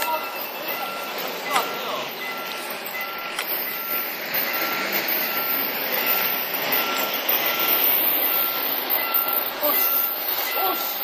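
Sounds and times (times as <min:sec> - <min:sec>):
level crossing warning bell ringing: 0:00.0 - 0:11.0
steady rushing noise: 0:00.0 - 0:11.0.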